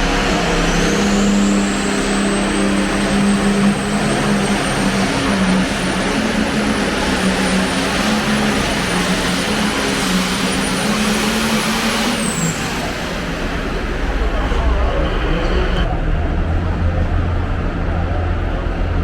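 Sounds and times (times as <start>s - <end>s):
engine droning under load: 0.0s - 19.0s.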